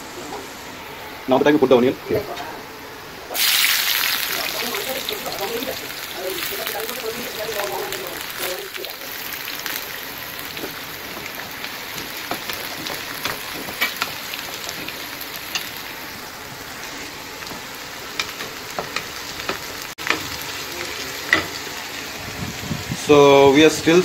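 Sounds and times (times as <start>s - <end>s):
onions sizzling in hot oil: 3.2s - 24.0s.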